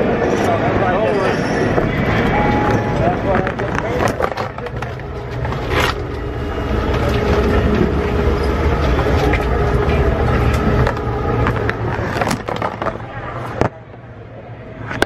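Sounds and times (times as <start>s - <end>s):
faint hum: 0.0s - 15.0s
low mechanical rumble: 0.0s - 15.0s.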